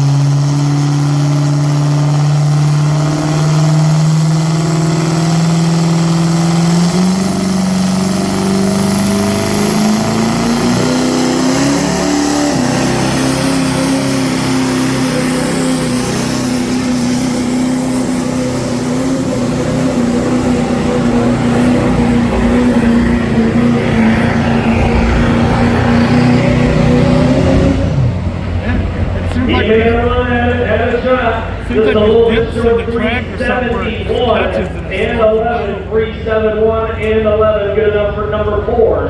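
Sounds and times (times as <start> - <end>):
vehicle engine running under load: 0.0 - 39.0.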